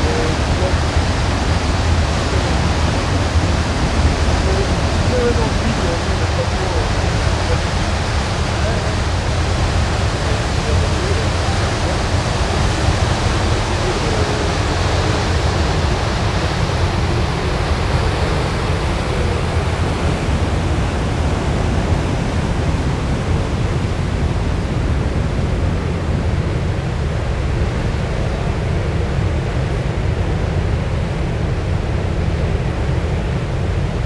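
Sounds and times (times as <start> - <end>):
sea rushing past ship: 0.0 - 34.0.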